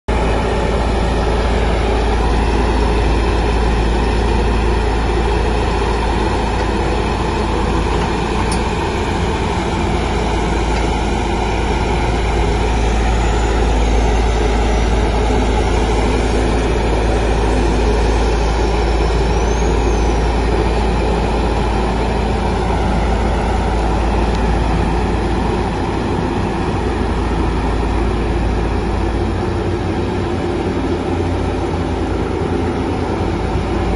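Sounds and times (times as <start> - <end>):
road roller diesel engine rumble: 0.0 - 33.9.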